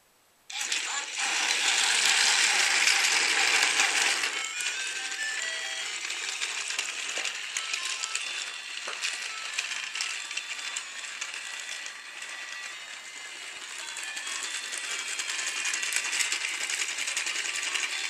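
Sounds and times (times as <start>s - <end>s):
toy train motor whirring: 0.5s - 18.0s
rapid clicking of wheels: 0.6s - 18.0s.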